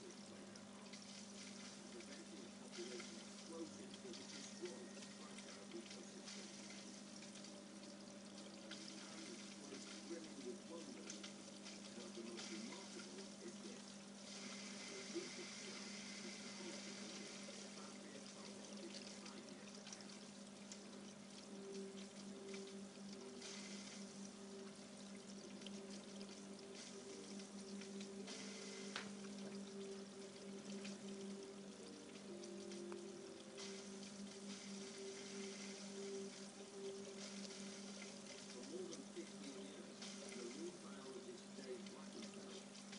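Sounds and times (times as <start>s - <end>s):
aquarium water trickling: 0.0s - 42.9s
steady low hum: 0.0s - 42.9s.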